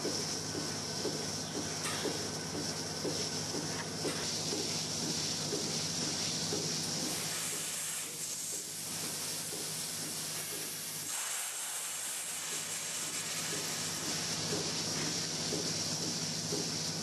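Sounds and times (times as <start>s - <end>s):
mist spray hissing: 2.0s - 17.0s.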